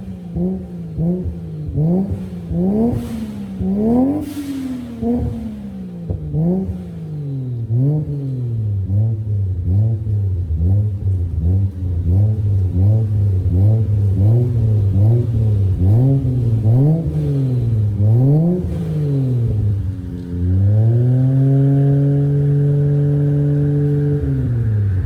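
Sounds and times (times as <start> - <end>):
car engine revving in quick blips: 0.0 - 25.0.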